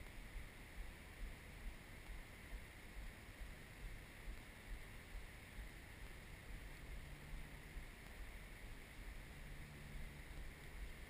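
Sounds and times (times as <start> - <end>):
steady soft hiss: 0.0 - 11.0.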